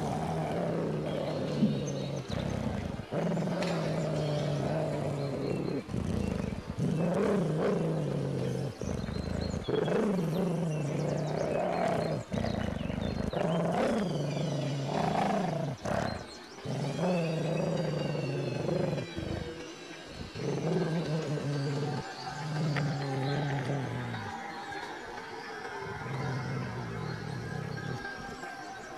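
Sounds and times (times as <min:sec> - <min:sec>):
large dog growling: 0:00.0 - 0:28.9.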